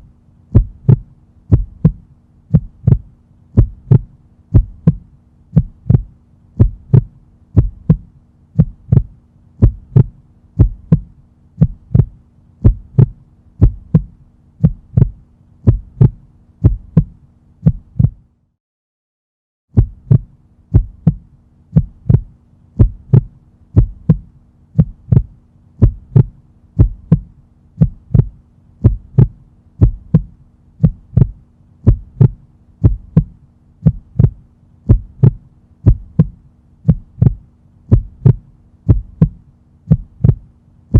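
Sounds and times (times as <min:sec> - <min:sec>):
heartbeat thumps: 0:00.0 - 0:18.3, 0:19.7 - 0:40.5
faint hum: 0:00.0 - 0:18.5, 0:19.7 - 0:40.9.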